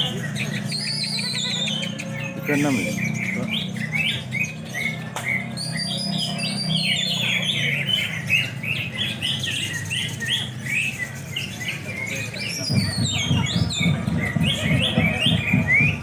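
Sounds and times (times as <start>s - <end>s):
birds singing chirps and whistles: 0.0s - 16.0s.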